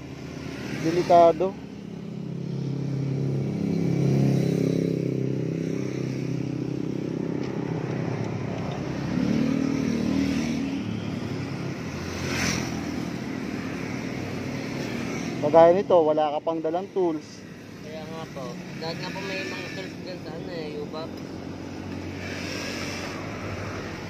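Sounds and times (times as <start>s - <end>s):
passing traffic engines: 0.0s - 24.0s.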